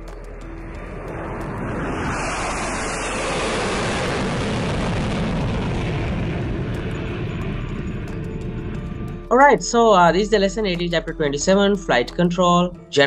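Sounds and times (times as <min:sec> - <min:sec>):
jet airliner engine noise: 0:00.0 - 0:10.6.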